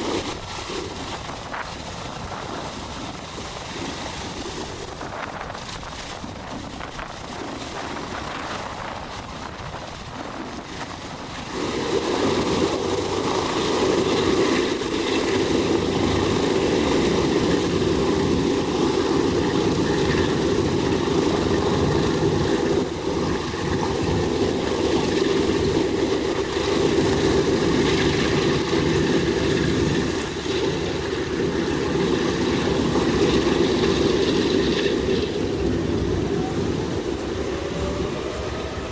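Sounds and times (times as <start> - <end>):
radial aircraft engines running: 0.0 - 38.9.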